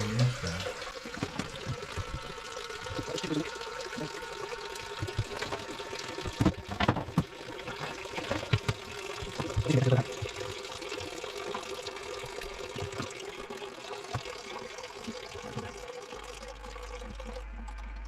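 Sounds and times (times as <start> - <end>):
toilet cistern refilling: 0.0 - 18.0.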